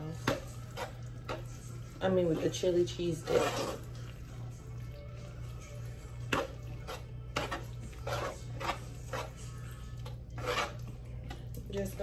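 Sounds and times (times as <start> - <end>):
spoon scraping a metal pot: 0.0 - 12.0.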